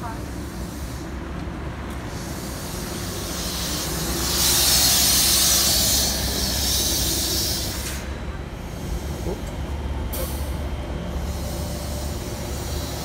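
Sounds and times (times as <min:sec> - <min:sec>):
trolley bus passing: 0:00.0 - 0:13.0
air brake hiss: 0:00.4 - 0:01.2, 0:02.0 - 0:09.4, 0:10.1 - 0:10.6, 0:11.2 - 0:13.0.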